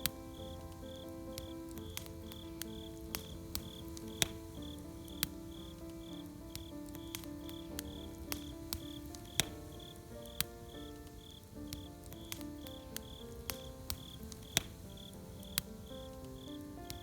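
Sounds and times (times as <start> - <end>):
campfire crackling and popping: 0.0 - 17.0
crickets chirping: 0.0 - 17.0
soft background music: 0.0 - 17.0.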